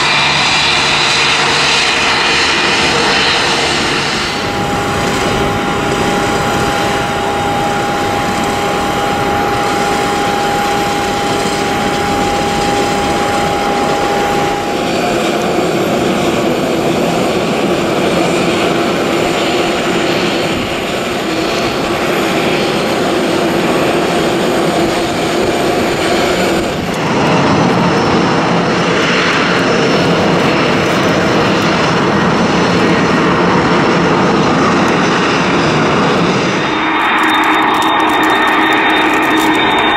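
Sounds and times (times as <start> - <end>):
airliner landing: 0.0 - 39.9
jet engines whining: 0.0 - 39.9
rushing jet engine noise: 0.0 - 39.9.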